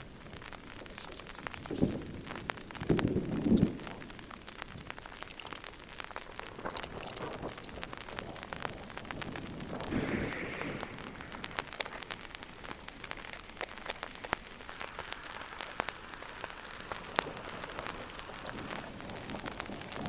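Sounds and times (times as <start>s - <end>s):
rain falling: 0.0s - 20.0s
raindrops clicking close by: 0.0s - 20.0s.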